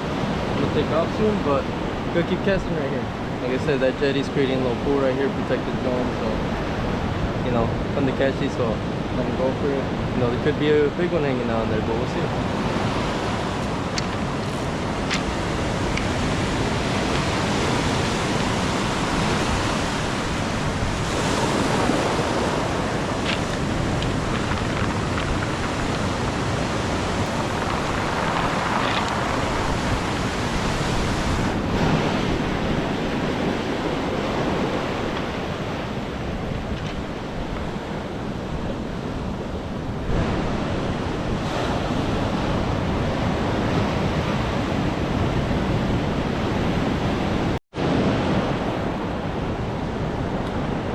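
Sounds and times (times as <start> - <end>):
ocean surf breaking: 0.0 - 50.9
wind buffeting microphone: 0.0 - 50.9.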